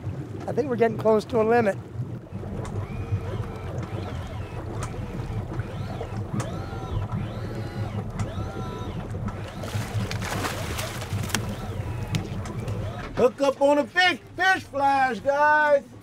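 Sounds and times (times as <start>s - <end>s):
boat engine humming: 0.0s - 16.0s
water noise: 0.0s - 16.0s.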